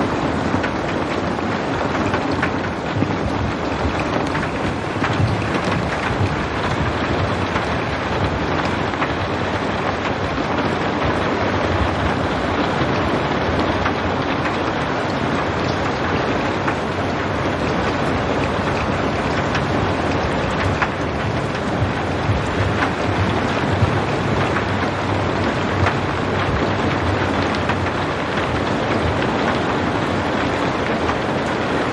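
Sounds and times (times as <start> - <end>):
steady rain: 0.0 - 31.9.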